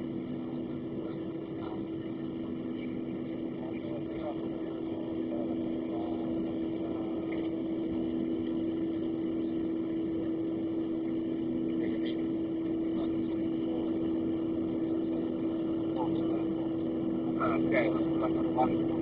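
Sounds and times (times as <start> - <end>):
jet engines idling hum: 0.0 - 19.0.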